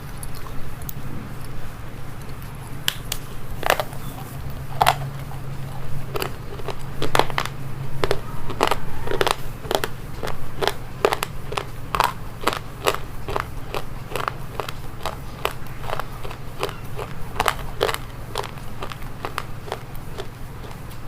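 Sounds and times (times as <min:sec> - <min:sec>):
crunchy food chewing: 0:00.0 - 0:21.0
steady low hum: 0:00.0 - 0:21.0.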